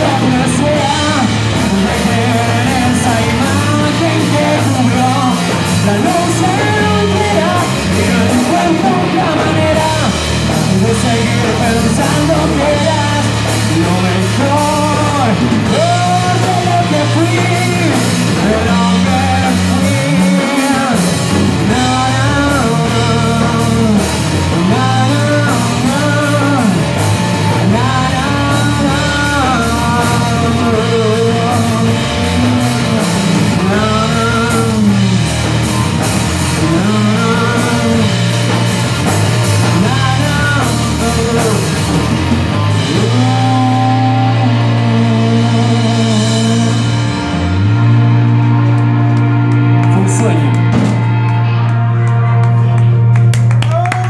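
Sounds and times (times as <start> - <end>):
electric guitar phrase: 0.0 - 53.9
live rock band playing: 0.0 - 54.0.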